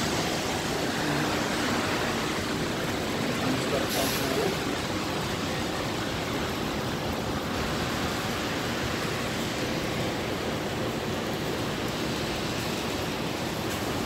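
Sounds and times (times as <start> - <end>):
rain falling on wet paving: 0.0 - 14.0.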